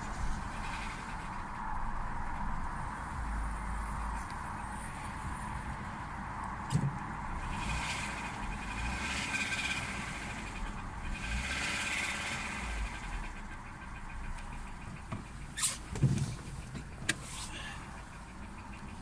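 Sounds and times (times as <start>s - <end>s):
car engine idling with knock: 0.0s - 19.0s.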